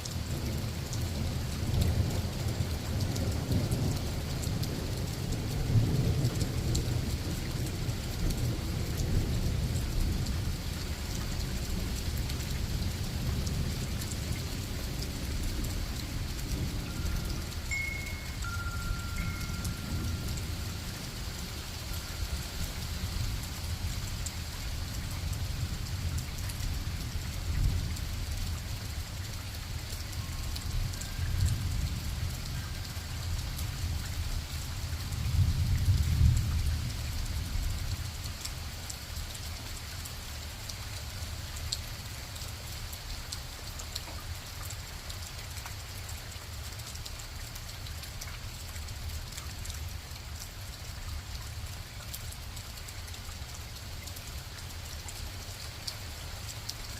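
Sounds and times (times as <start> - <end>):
steady rain: 0.0 - 56.9.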